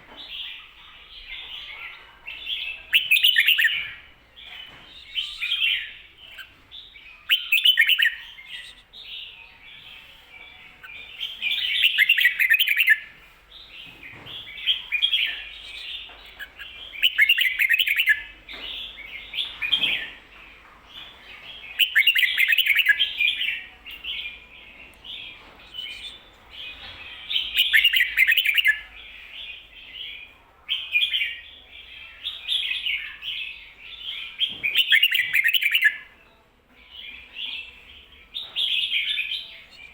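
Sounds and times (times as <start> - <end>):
bird song phrase: 0.1 - 39.9
soft bird chattering: 0.3 - 13.1, 14.4 - 20.2, 21.0 - 29.6, 30.8 - 36.1, 38.6 - 39.9.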